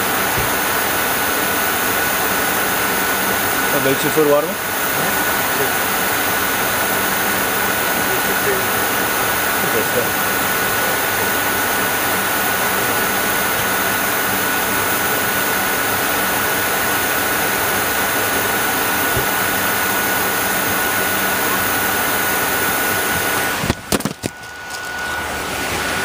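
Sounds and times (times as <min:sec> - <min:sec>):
airliner cockpit airflow and engine hum: 0:00.0 - 0:26.0
high whine: 0:00.0 - 0:26.0.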